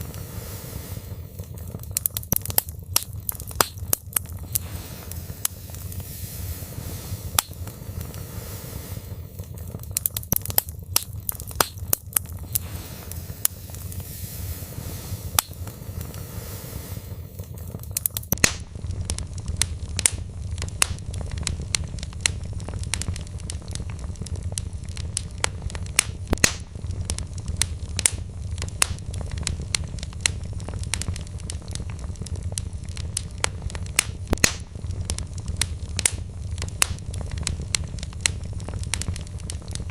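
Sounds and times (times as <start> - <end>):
burning logs popping: 0.0 - 39.9
low rumble of flames: 0.0 - 39.9
wood fire crackling: 0.0 - 39.9.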